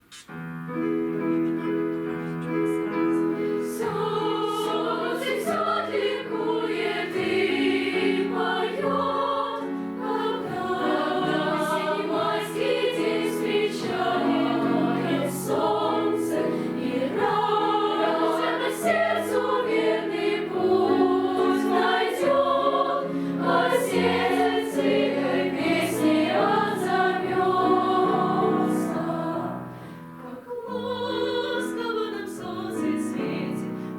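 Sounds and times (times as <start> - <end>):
children's choir singing: 3.7 - 33.8.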